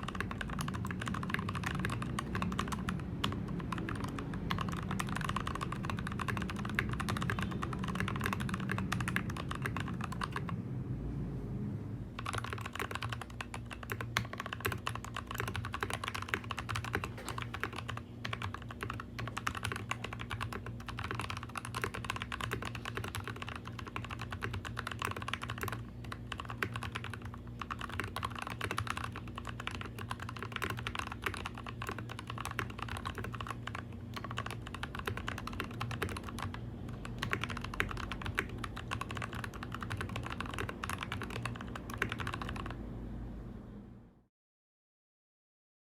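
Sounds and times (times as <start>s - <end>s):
mechanical keyboard typing: 0.0s - 10.6s, 12.2s - 42.8s.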